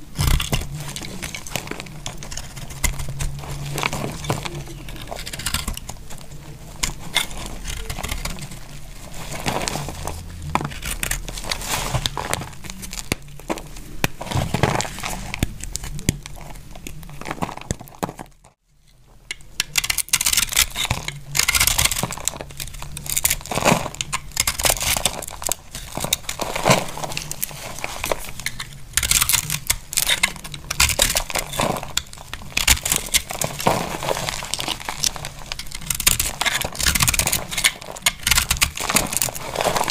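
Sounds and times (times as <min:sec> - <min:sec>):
knife cutting brittle soap: 0:00.1 - 0:09.7, 0:10.6 - 0:17.8, 0:19.3 - 0:39.9.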